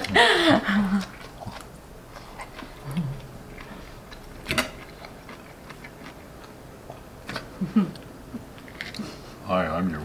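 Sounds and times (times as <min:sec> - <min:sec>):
chewing: 0:00.8 - 0:09.3.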